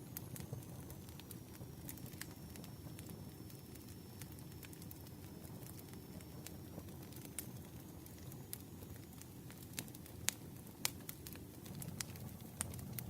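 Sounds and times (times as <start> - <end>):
campfire hiss and rustle: 0.0 - 13.0
fire popping: 0.0 - 13.0.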